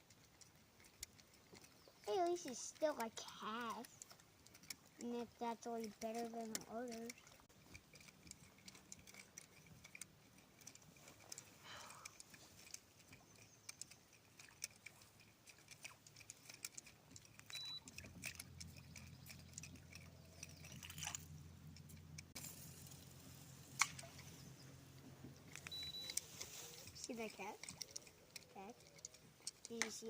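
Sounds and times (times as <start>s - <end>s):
fishing tackle clicking: 3.8s - 5.0s, 5.8s - 23.0s, 23.7s - 30.0s.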